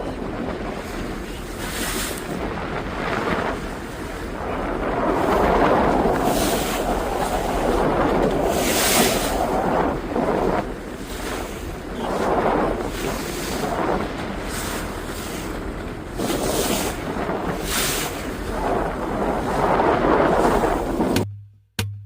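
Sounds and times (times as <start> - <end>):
sea water rushing around boat: 0.0 - 21.3
wind buffeting microphone: 0.0 - 21.3.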